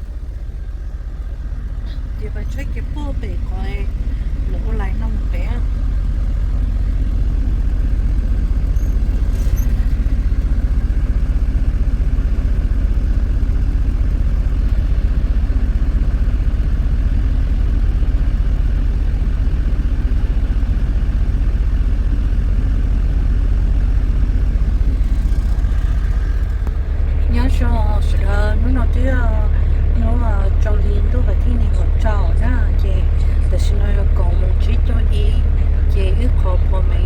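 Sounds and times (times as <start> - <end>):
truck engine rumbling: 0.0 - 37.0.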